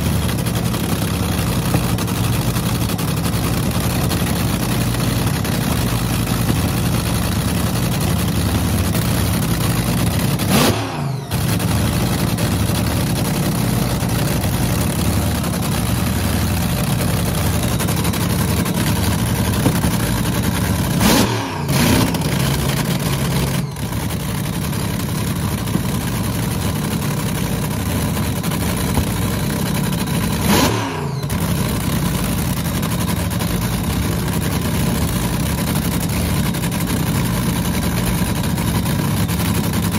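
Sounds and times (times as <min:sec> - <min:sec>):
dragster engine idling and revving: 0:00.0 - 0:39.9.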